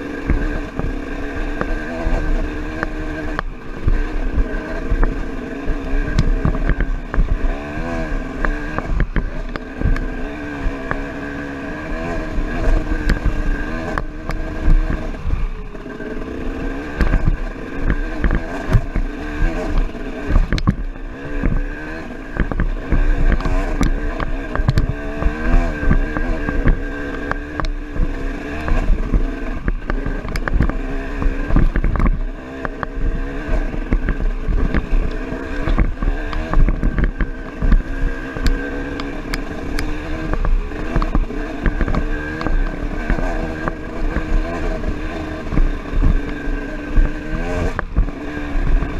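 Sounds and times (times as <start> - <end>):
dirt bike engine revving: 0.0 - 48.9
bike knocks and rattles: 0.1 - 48.9.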